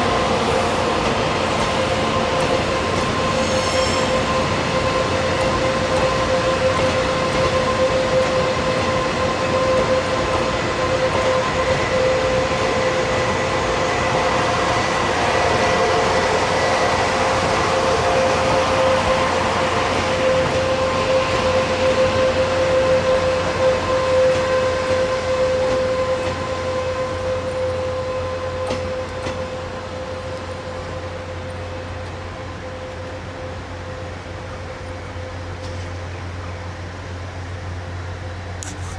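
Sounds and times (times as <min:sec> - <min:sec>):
high steady train whine: 0:00.0 - 0:38.9
train rumbling past: 0:00.0 - 0:38.9.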